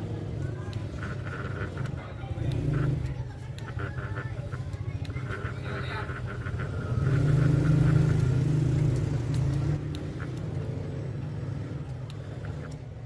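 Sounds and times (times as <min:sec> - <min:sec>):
engine humming: 0:00.0 - 0:13.0
faint clicks: 0:00.4 - 0:13.0.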